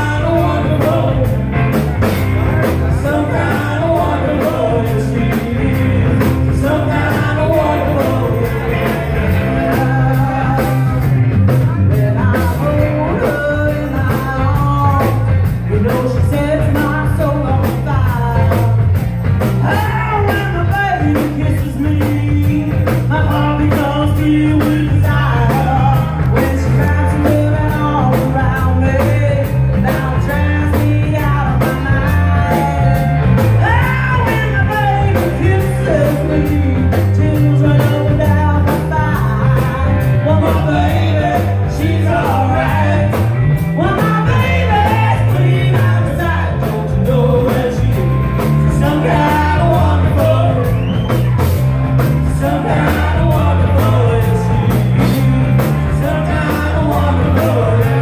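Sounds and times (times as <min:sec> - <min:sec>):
drums: 0:00.0 - 0:58.0
electric guitar: 0:00.0 - 0:58.0.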